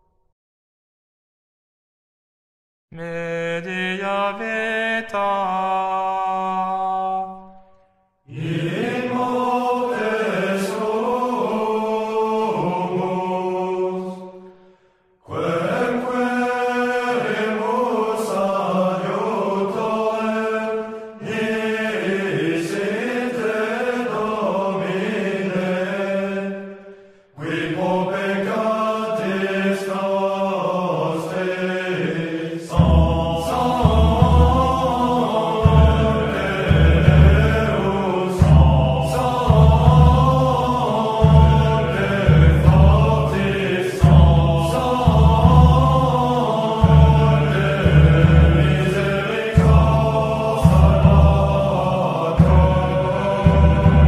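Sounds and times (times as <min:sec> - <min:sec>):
plainchant singing: 0:02.9 - 0:07.6, 0:08.3 - 0:14.6, 0:15.2 - 0:54.0.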